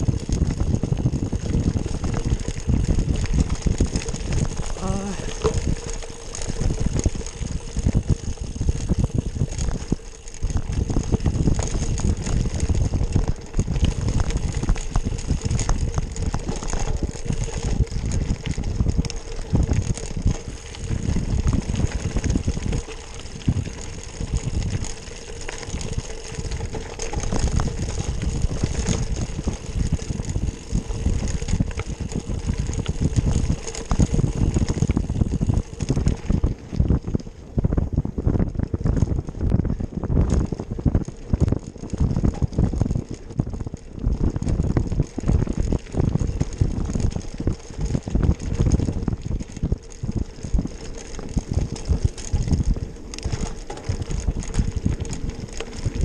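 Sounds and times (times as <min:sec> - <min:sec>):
bike rattling and clicking: 0:00.0 - 0:56.0
wind rumbling on microphone: 0:00.0 - 0:56.0.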